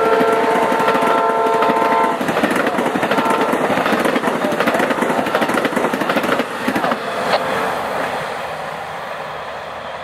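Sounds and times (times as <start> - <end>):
train wheels clicking: 0.0 - 8.1
train cars rolling on rails: 0.0 - 10.0.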